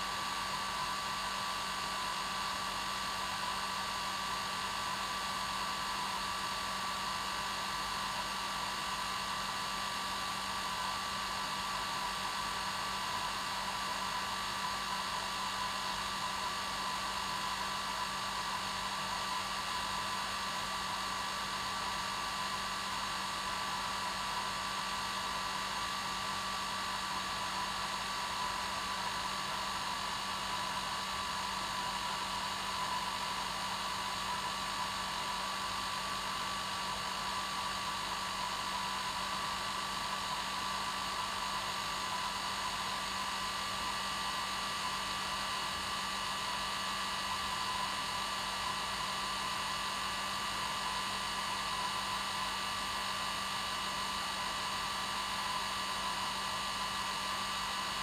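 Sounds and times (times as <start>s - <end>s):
hair dryer running: 8.0s - 58.0s.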